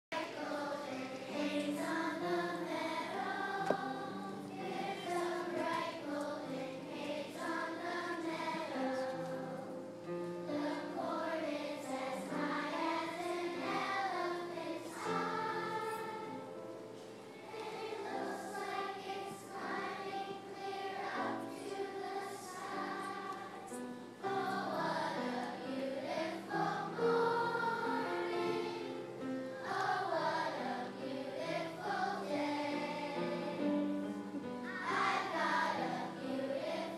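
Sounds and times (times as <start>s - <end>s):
children's choir singing: 0.1s - 36.9s.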